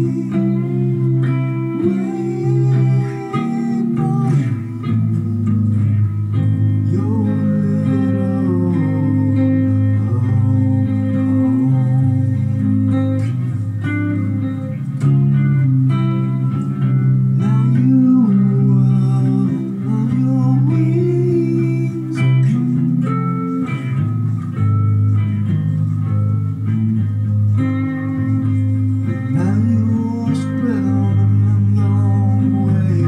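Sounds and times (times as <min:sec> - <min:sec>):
electric guitar with bent notes: 0:00.0 - 0:33.0.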